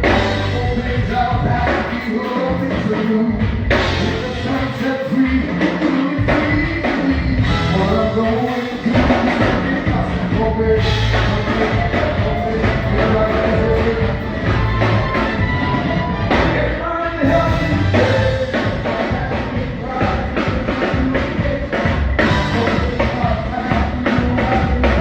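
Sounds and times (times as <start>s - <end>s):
band music with drums and bass: 0.0s - 25.0s
person singing: 0.0s - 25.0s.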